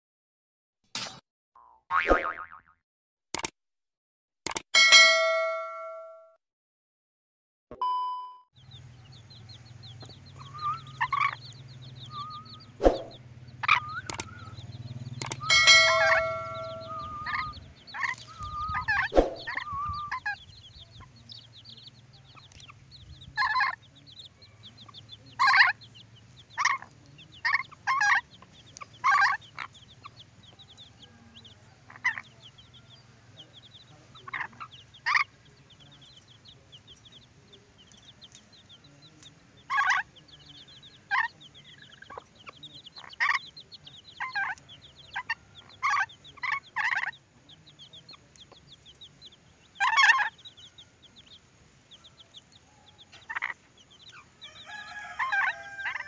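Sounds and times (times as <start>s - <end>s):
faint high twittering: 8.6s - 55.8s.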